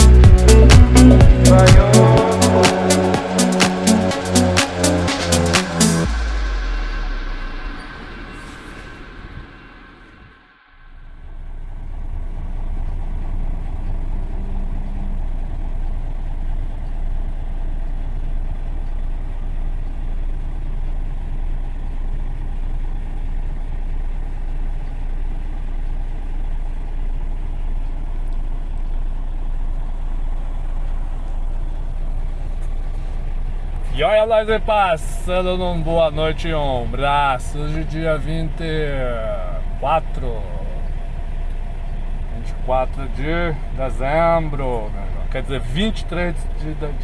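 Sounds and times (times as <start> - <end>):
truck engine and road rumble: 0.0 - 47.0.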